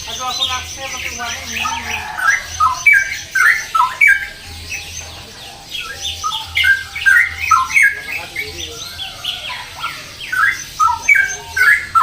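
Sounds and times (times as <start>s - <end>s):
bulbul warbling song: 0.0s - 12.0s.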